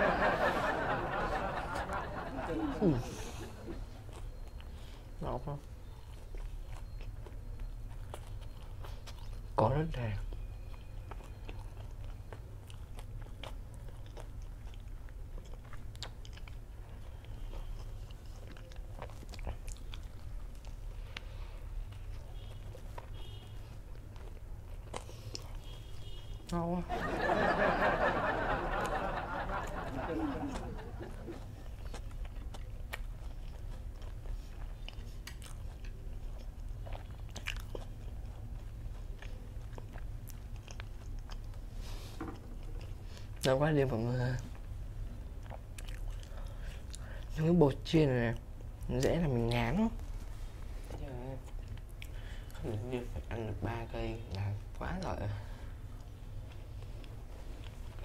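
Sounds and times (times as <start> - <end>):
steady low hum: 0.0 - 58.0
chewing crispy fried food: 0.6 - 58.0.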